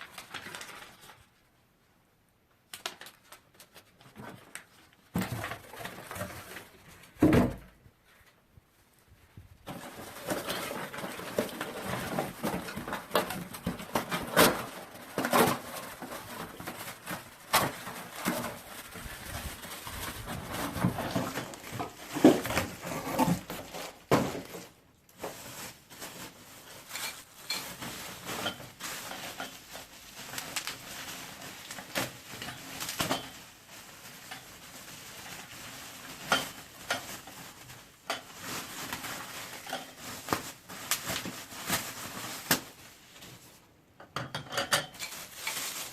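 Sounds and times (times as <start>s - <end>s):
packaging rustling: 0.0s - 1.4s, 2.7s - 7.2s, 9.7s - 43.6s, 44.9s - 45.9s.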